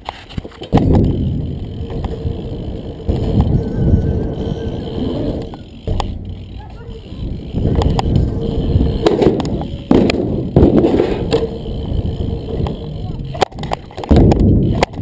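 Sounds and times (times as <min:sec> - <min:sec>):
bike rattles and knocks: 0:00.0 - 0:15.0
bike tyre rumble on concrete: 0:00.0 - 0:15.0
wind buffeting microphone: 0:00.8 - 0:15.0.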